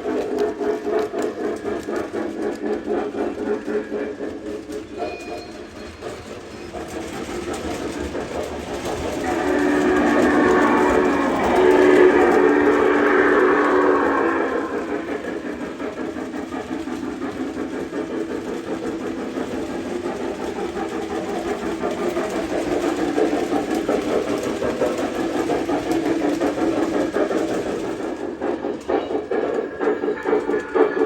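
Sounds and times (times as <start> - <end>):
model train running on track: 0.0 - 31.0.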